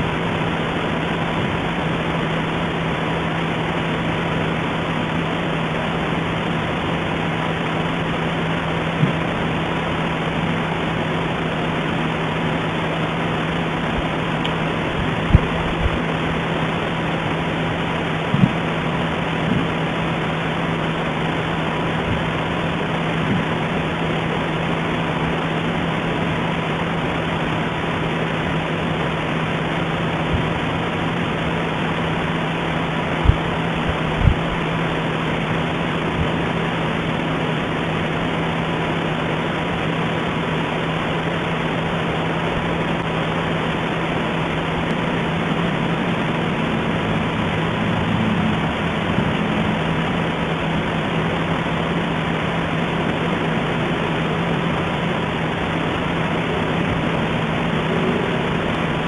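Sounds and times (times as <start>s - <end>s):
low hum: 0.0s - 59.0s
steady hiss: 0.0s - 59.0s.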